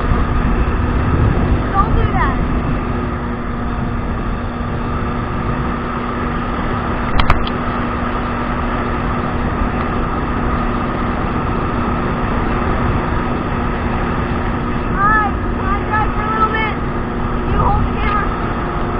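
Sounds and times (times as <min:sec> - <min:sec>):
jet ski engine running: 0:00.0 - 0:18.9.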